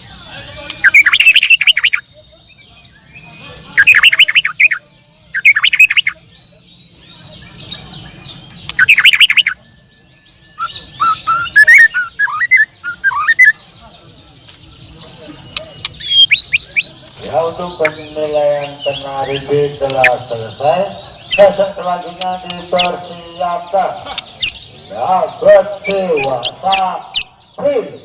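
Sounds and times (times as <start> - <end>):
songbirds singing trills: 0.0 - 28.0.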